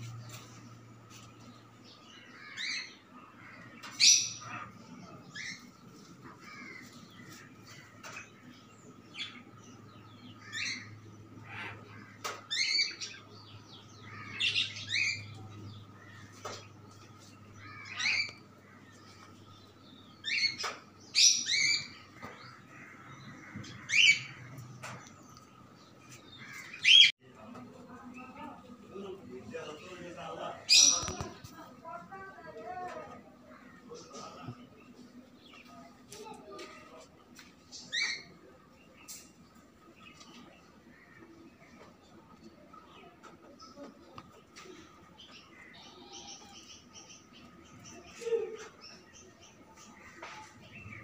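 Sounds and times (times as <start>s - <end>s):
cage birds chirping and squawking: 0.0s - 51.0s.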